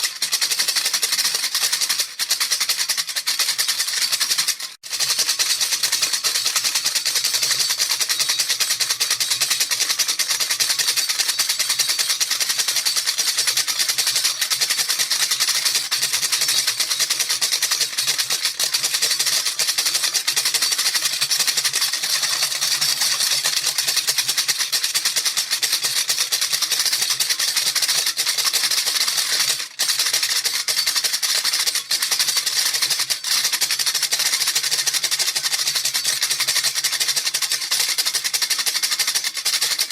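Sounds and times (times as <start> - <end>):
maraca rattling: 0.0 - 39.9.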